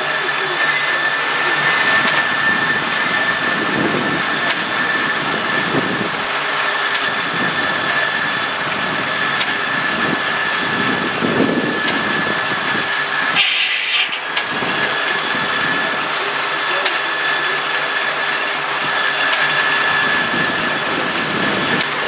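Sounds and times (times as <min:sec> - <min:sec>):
high-pitched machine whine: 0:00.0 - 0:22.0
mechanical rumble: 0:00.0 - 0:22.0.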